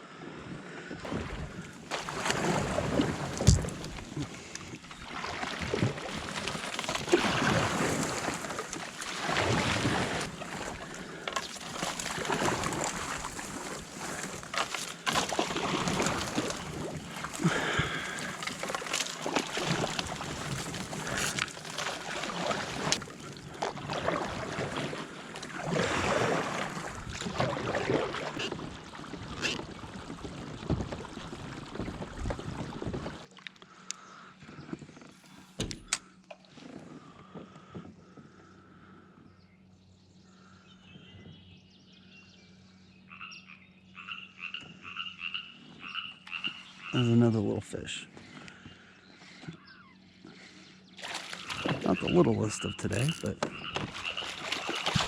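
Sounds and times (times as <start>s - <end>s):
water lapping around kayak: 0.0s - 55.0s.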